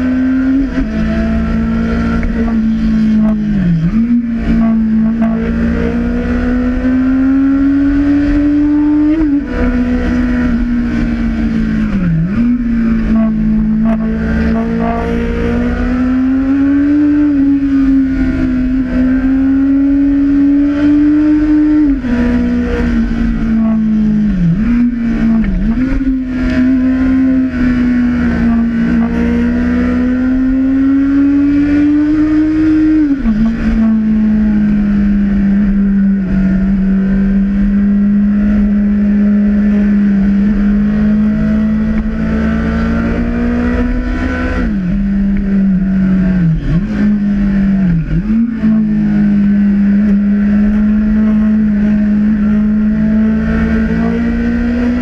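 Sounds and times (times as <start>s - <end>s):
motorcycle engine running: 0.0s - 15.4s, 16.0s - 31.5s, 32.4s - 55.0s.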